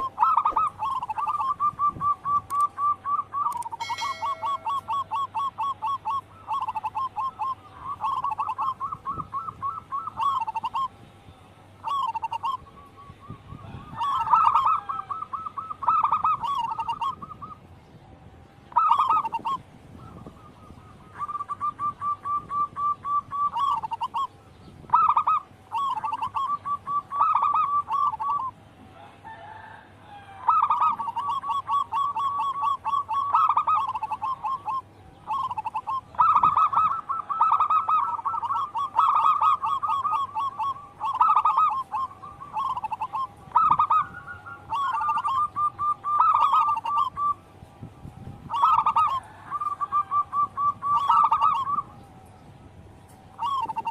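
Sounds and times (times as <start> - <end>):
doves cooing: 0.0 - 17.6, 18.7 - 52.3, 53.2 - 53.9.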